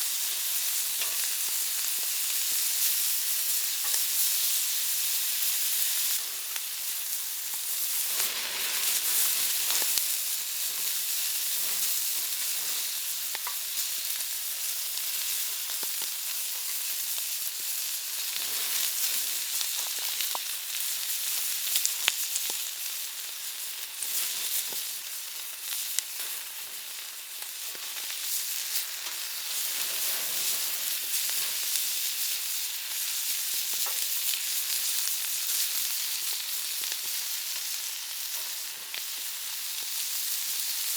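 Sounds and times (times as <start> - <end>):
meat sizzling on a griddle: 0.0 - 40.9.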